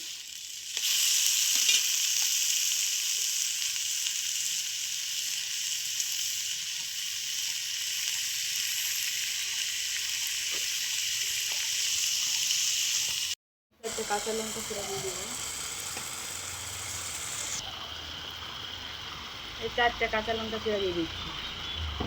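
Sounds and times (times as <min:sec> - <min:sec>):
leaves sizzling in hot oil: 0:00.0 - 0:21.9.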